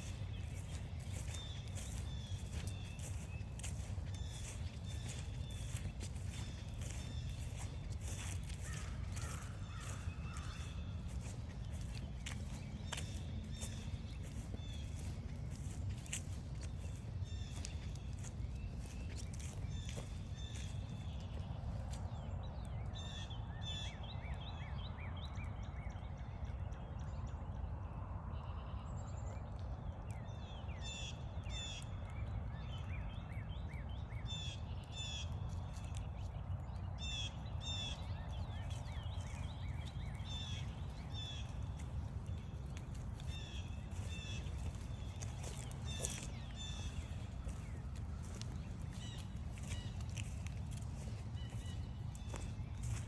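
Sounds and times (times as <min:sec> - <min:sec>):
wild birds chirping: 0:00.0 - 0:22.3, 0:32.2 - 0:53.0
steady low rumble: 0:00.0 - 0:23.0, 0:32.1 - 0:53.0.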